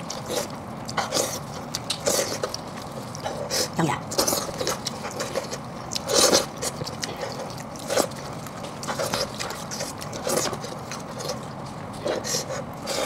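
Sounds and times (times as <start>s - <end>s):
biting and chewing: 0.0s - 13.0s.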